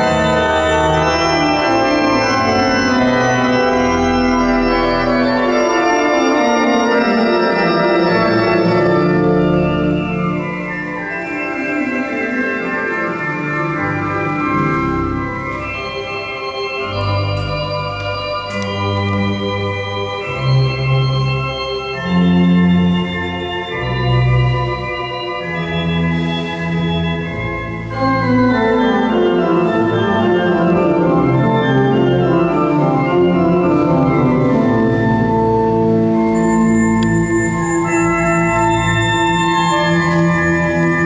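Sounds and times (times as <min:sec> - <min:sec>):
pipe organ playing: 0:00.0 - 0:41.0.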